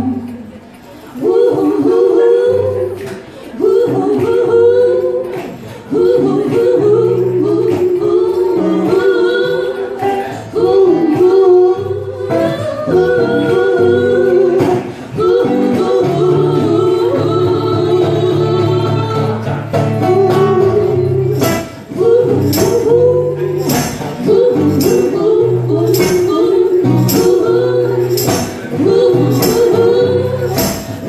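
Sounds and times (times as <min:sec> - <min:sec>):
wordless singing: 0:00.0 - 0:31.0.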